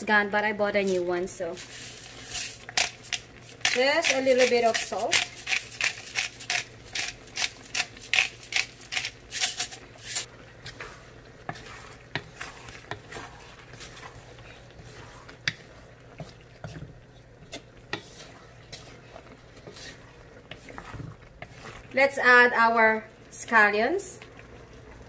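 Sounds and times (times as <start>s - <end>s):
utensil stirring in a pan: 0.8s - 25.0s.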